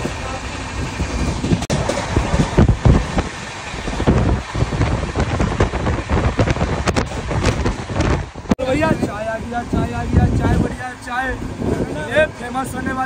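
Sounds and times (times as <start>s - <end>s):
moving train rumble: 0.0s - 13.0s
wind buffeting microphone: 0.0s - 13.0s.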